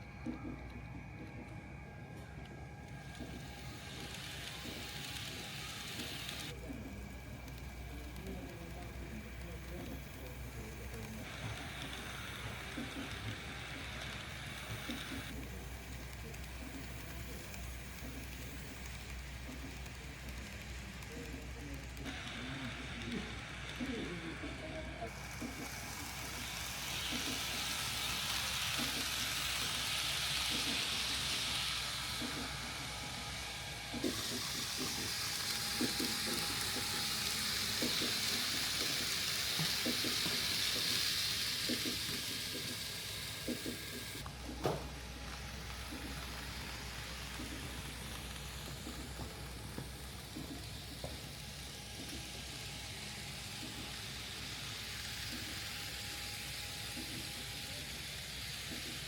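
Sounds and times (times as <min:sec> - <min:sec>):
model train hiss: 0:03.0 - 0:59.0.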